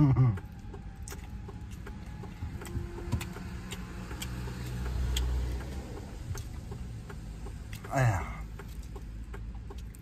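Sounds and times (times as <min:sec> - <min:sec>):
vehicle engine rumble: 0:00.0 - 0:10.0
chewing clicks: 0:00.3 - 0:10.0.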